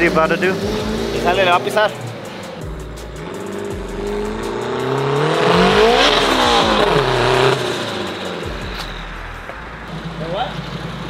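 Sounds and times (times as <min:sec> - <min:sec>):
car accelerating hard: 0:00.0 - 0:11.0.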